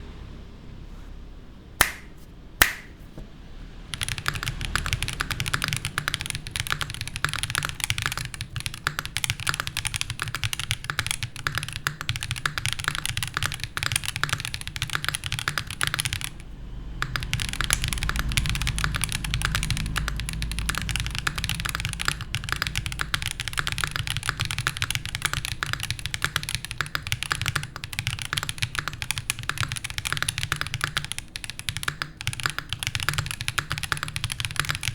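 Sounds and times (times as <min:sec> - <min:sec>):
mechanical keyboard typing: 0:03.9 - 0:34.9.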